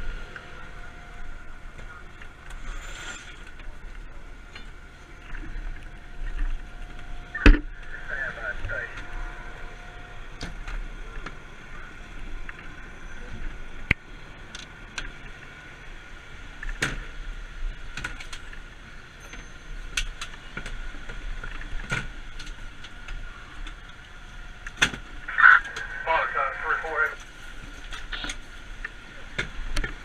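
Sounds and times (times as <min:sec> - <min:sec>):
vehicle engine low rumble: 0:00.0 - 0:30.0.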